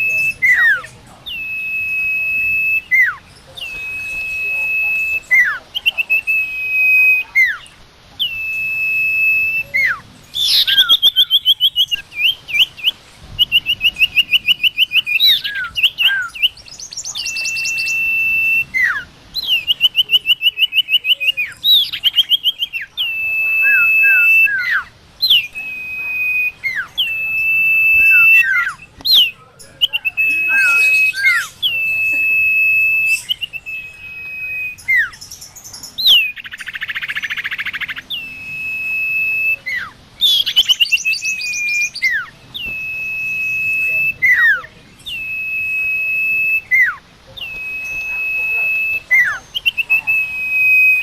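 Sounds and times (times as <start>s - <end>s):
bird singing whistles and trills: 0.0s - 51.0s.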